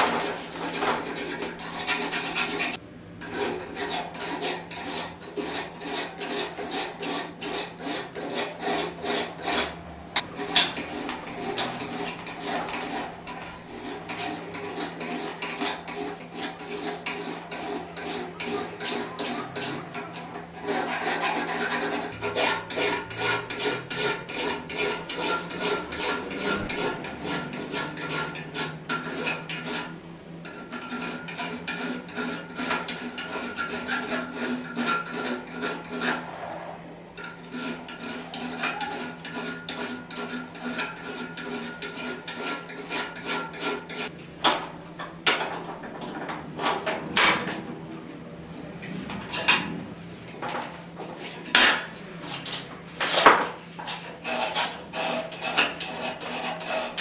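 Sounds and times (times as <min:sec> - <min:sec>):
file rasping on steel: 0:00.0 - 0:44.1, 0:46.6 - 0:47.6, 0:51.1 - 0:52.0, 0:53.1 - 0:57.0.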